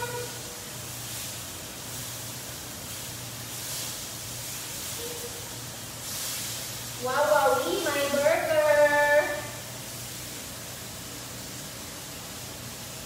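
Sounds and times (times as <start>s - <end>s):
patties sizzling in a frying pan: 0.0s - 13.0s.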